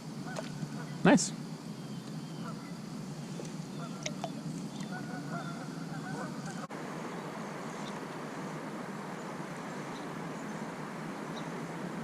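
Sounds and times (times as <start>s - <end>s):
low outdoor rush: 0.0s - 12.0s
thin bird calls: 0.2s - 11.9s.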